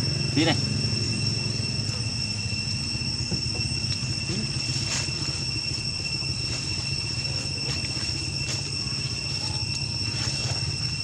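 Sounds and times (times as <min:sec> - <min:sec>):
high-pitched whine: 0:00.0 - 0:11.0
low rumble: 0:00.0 - 0:11.0.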